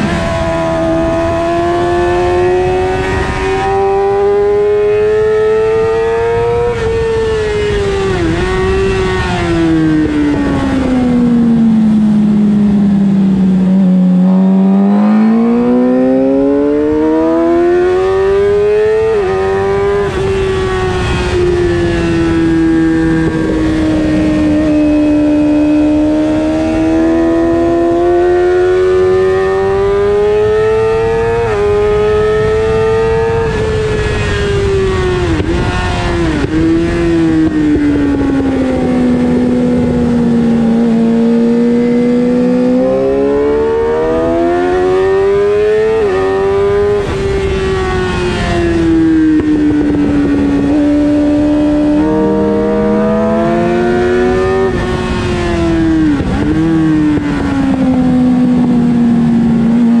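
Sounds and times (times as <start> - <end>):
motorcycle engine at high revs: 0.0 - 60.0
wind rush: 0.0 - 60.0.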